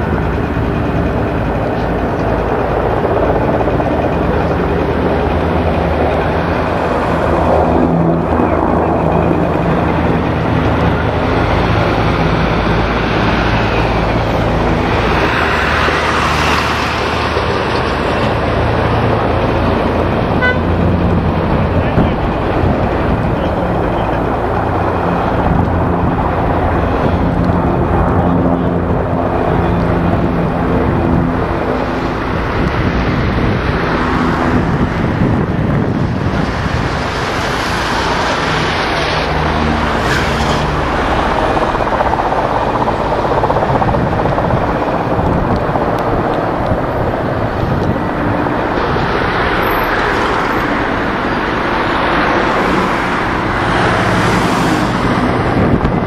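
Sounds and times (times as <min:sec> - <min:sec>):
outdoor rush of noise: 0:00.0 - 0:56.0
turboprop plane engine drone: 0:00.0 - 0:56.0.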